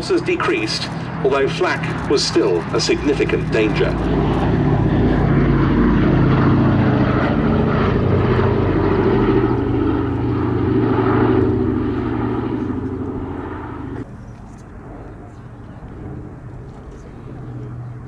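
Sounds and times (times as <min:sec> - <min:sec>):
propeller plane flying past: 0:00.0 - 0:18.0.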